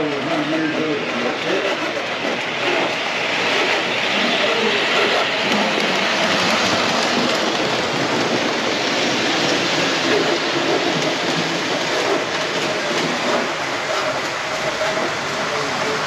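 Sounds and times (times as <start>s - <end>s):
toy train wheels rolling on rails: 0.0s - 16.0s.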